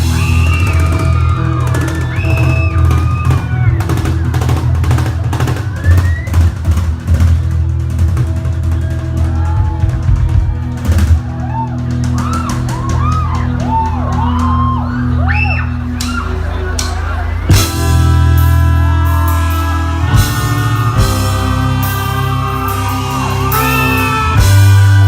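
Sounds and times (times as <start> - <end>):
bass guitar: 0.0 - 25.0
drum kit: 0.0 - 25.0
lead melody with bending notes: 0.0 - 25.0
worship band playing: 0.0 - 25.0.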